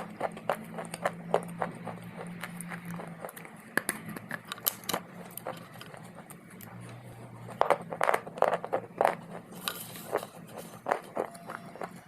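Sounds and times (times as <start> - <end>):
dry clay crunching when chewed: 0.0 - 12.0.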